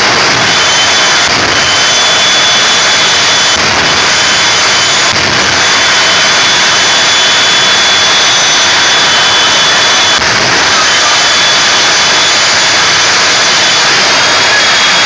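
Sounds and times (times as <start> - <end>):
jet engines roaring with turbine whine: 0.0 - 15.0.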